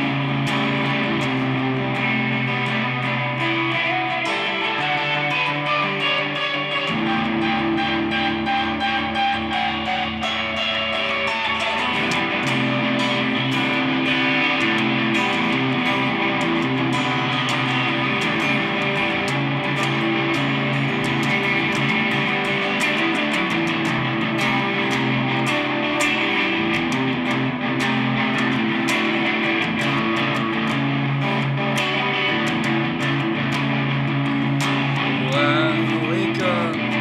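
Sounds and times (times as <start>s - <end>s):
guitar strumming chords: 0.0s - 37.0s.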